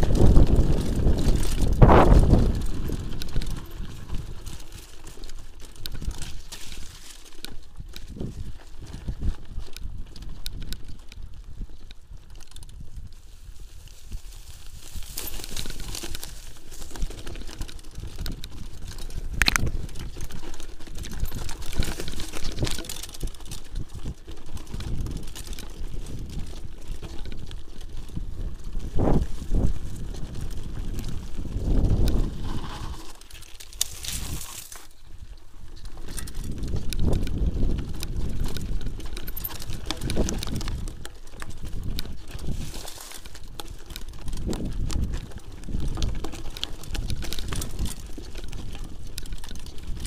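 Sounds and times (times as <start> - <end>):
tyre noise: 0.0 - 7.4, 13.1 - 50.0
bike frame rattling: 0.0 - 50.0.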